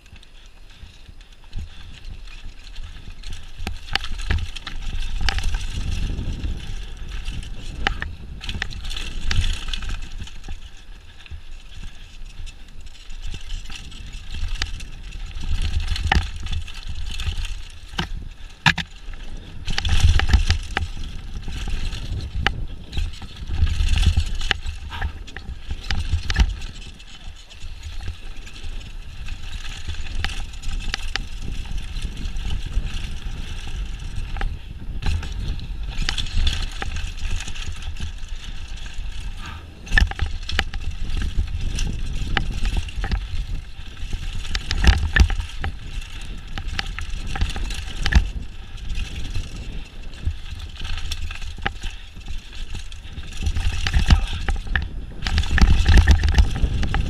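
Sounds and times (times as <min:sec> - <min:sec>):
bike knocking and rattling: 0:00.0 - 0:57.0
tyres running over dirt: 0:00.0 - 0:57.0
wind buffeting microphone: 0:00.0 - 0:57.0.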